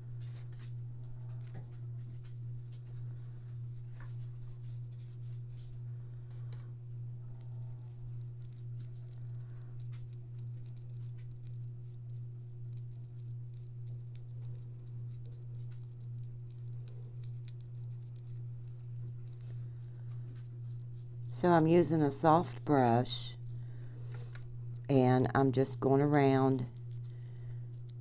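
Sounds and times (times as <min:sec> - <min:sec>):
low hum: 0:00.0 - 0:28.0
paintbrush scratching: 0:01.4 - 0:06.4, 0:07.6 - 0:24.4, 0:25.0 - 0:28.0.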